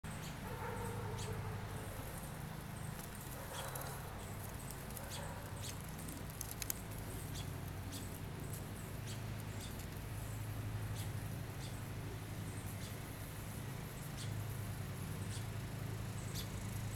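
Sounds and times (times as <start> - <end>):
baby birds peeping: 0.1 - 13.3, 13.9 - 16.9.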